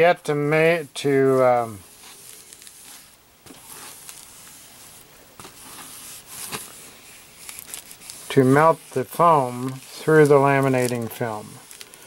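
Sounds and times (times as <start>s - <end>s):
plastic film rustling crackle: 1.0s - 12.0s.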